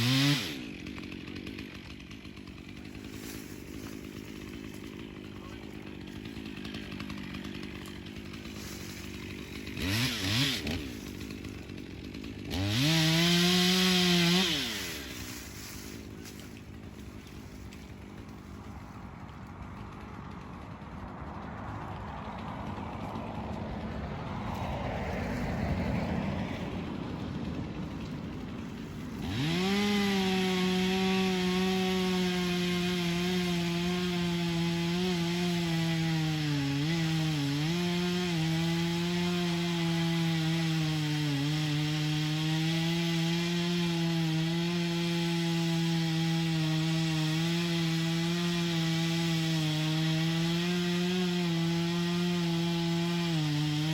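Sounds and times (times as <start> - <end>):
chainsaw cutting into trunk: 0.0 - 53.9.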